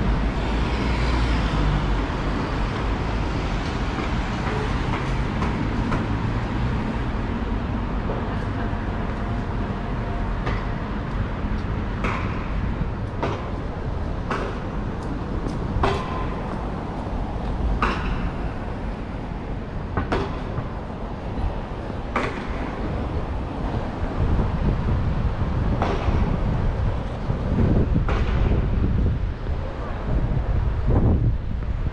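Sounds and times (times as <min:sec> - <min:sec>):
passing vehicles rumbling: 0:00.0 - 0:31.9.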